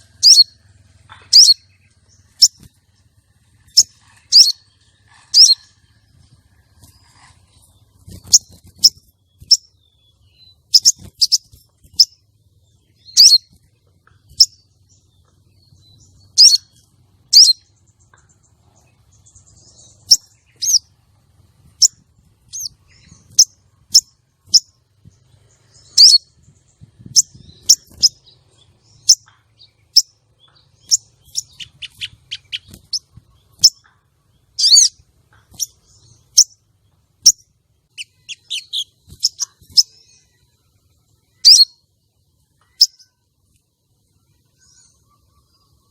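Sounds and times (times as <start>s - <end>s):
sunbird chirping: 0.0s - 45.9s.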